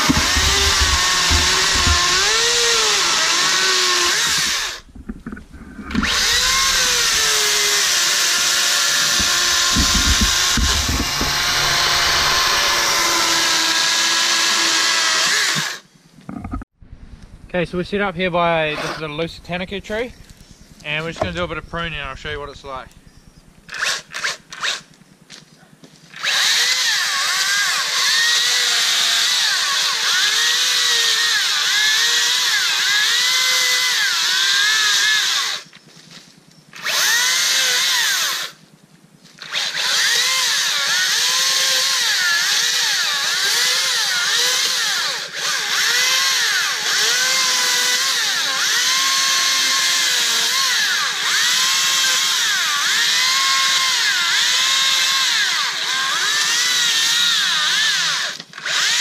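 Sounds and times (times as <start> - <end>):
electric chainsaw cutting branches: 0.0 - 15.9, 23.0 - 25.0, 26.1 - 38.7, 39.3 - 59.0.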